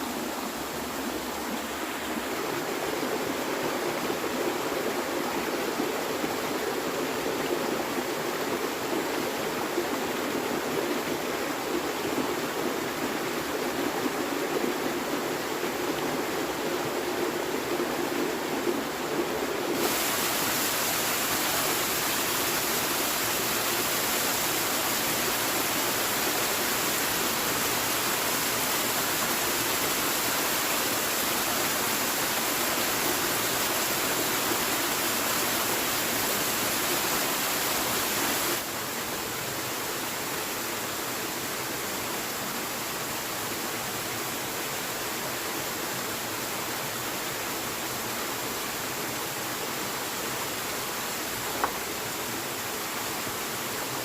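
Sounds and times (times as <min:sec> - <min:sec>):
rushing water hiss: 0:00.0 - 0:54.0.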